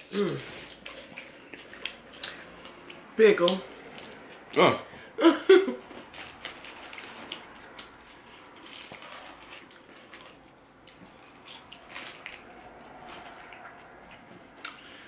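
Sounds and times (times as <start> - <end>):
chewing food: 0.0 - 4.6, 5.9 - 15.0.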